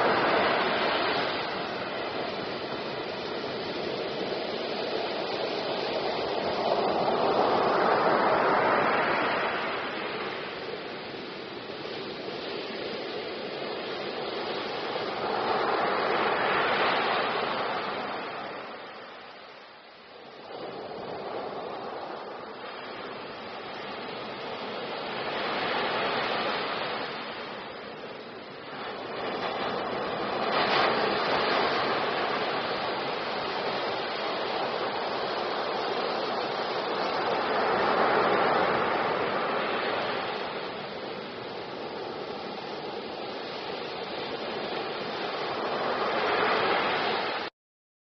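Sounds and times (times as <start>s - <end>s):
ocean waves breaking: 0.0s - 47.5s.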